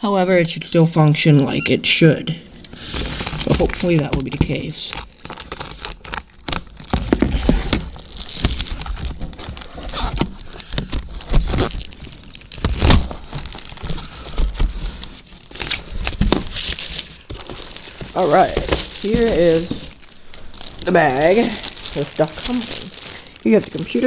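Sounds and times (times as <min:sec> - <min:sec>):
cardboard rustling: 0:02.4 - 0:24.0
plastic packaging crinkling: 0:02.4 - 0:24.0.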